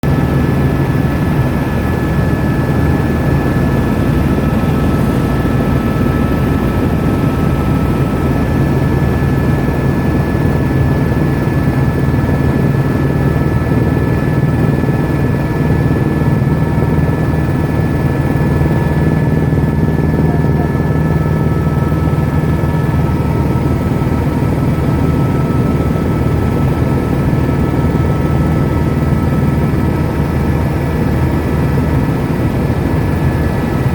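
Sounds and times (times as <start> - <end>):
helicopter rotor and engine rumble: 0.0 - 33.9
high turbine whine: 0.0 - 33.9.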